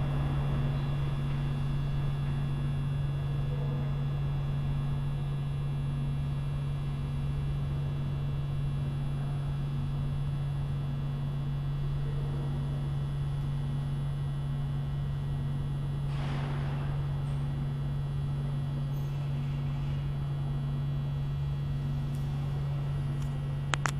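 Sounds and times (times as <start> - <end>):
low electrical hum: 0.0 - 23.9.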